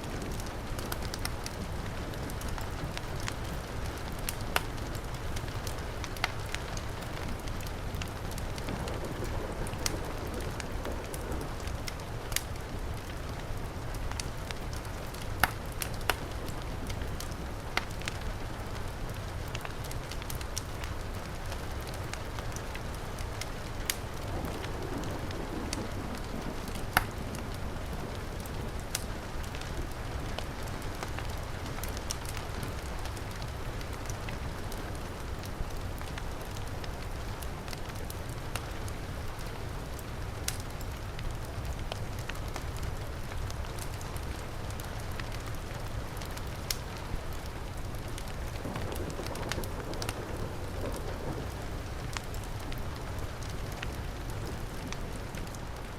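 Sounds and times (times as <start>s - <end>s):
heavy rain hiss: 0.0s - 55.9s
wood fire crackling: 0.0s - 55.9s.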